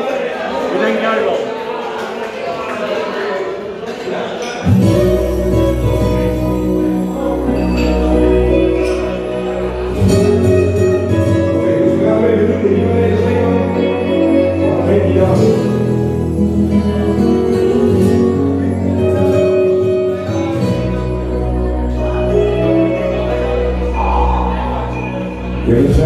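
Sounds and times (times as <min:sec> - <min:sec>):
bass line: 0:04.7 - 0:26.0
music with singing voice: 0:04.7 - 0:26.0.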